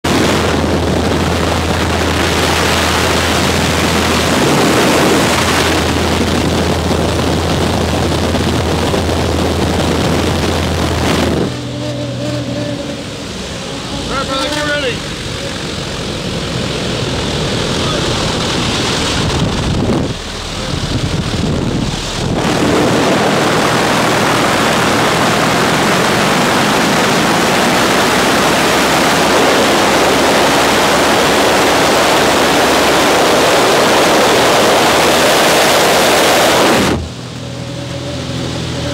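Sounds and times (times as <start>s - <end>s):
light aircraft engine droning: 0.0s - 38.9s
wind buffeting microphone: 0.0s - 38.9s.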